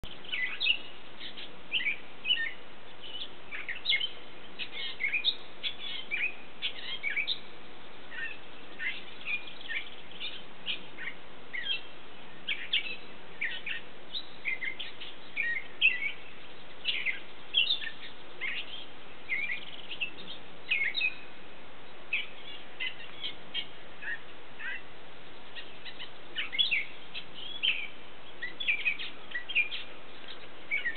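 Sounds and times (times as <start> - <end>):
small birds chirping: 0.0 - 30.9
steady background hiss: 0.0 - 30.9.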